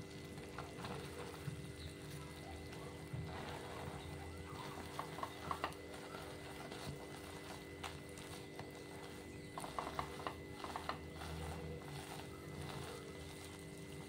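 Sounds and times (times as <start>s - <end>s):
clicks and crackles in pan: 0.0s - 14.0s
steady low hum: 0.0s - 14.0s.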